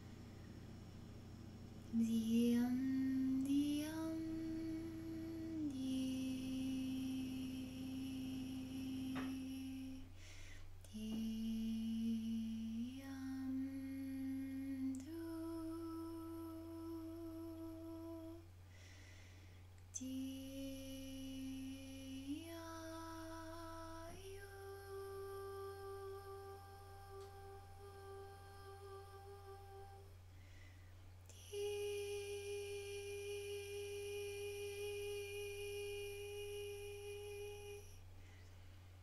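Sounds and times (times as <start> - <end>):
woman humming held notes: 0.0 - 10.2, 10.8 - 18.5, 19.9 - 30.2, 31.3 - 38.0.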